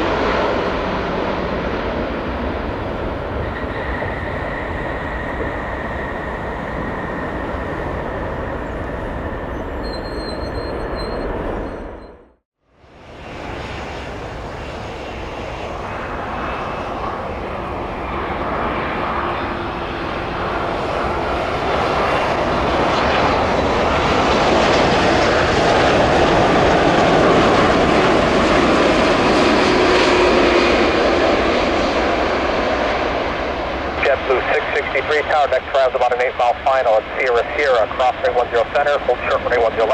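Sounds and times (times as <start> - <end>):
airliner jet engines: 0.0 - 39.9.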